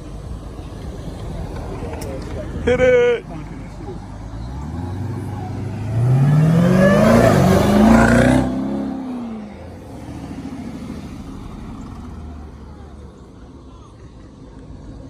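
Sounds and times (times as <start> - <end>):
car engine revving past: 0.0 - 13.4
engine idling rumble: 0.0 - 15.0.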